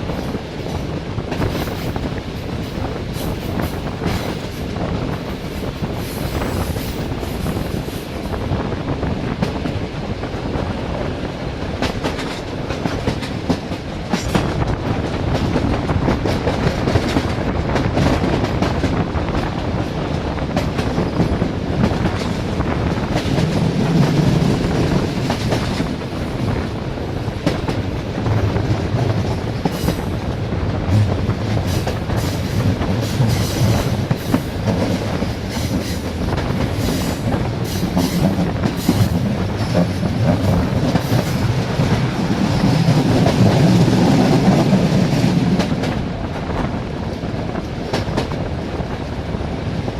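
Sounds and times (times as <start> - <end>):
low train rumble: 0.0 - 49.9
train wheels clickety-clack: 0.0 - 49.9.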